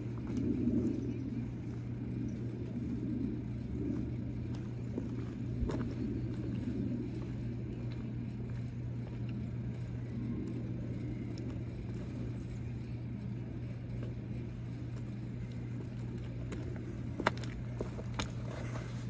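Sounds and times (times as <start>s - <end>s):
low outdoor background hum: 0.0s - 19.0s.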